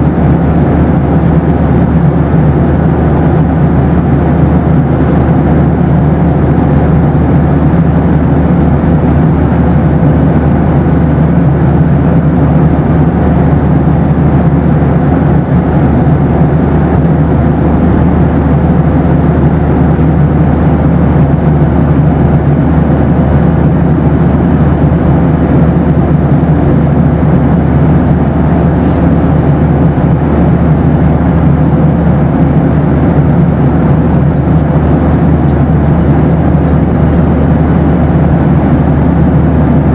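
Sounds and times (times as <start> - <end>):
airplane cabin engine rush: 0.0 - 39.9
faint steady hum: 0.0 - 39.9.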